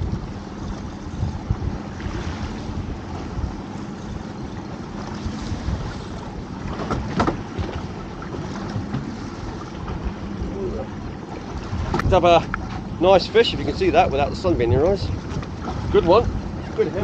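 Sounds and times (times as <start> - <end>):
waves slapping boat hull: 0.0 - 17.0
wind buffeting microphone: 0.0 - 17.0.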